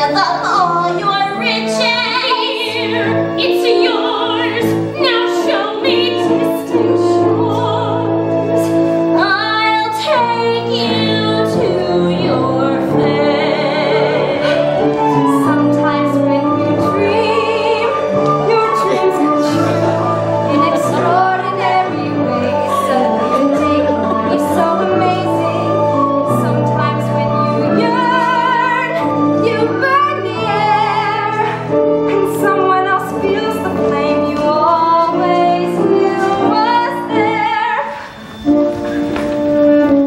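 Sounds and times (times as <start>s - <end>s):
operatic singing with vibrato: 0.0s - 38.7s
instrumental accompaniment: 0.0s - 40.0s.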